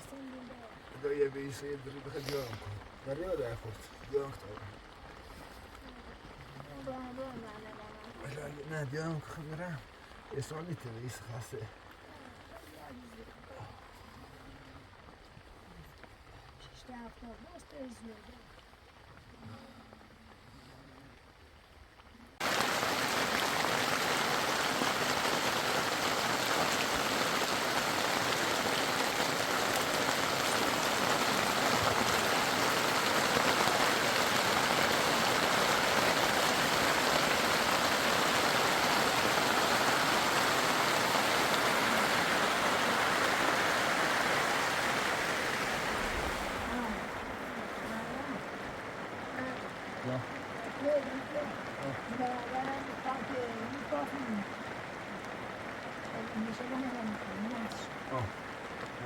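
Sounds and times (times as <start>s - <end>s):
water rushing: 0.0s - 14.4s, 22.4s - 59.0s.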